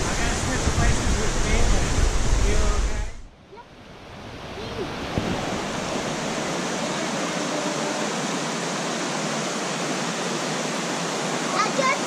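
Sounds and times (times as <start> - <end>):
rushing water of rapids: 0.0 - 12.0.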